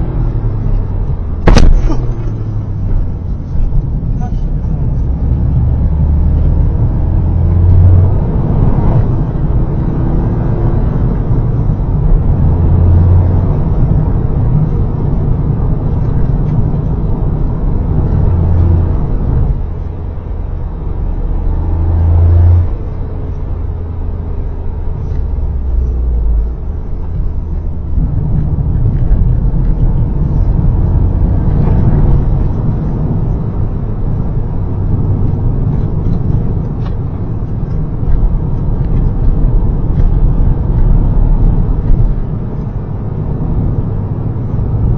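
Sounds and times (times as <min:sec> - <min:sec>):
car engine revving: 0:00.0 - 0:44.9
road noise: 0:00.0 - 0:44.9.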